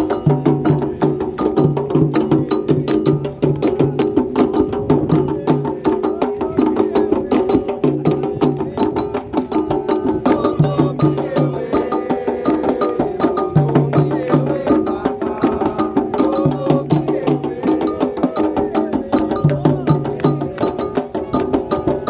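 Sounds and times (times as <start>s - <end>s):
hand drums playing fast rhythm: 0.0s - 22.0s.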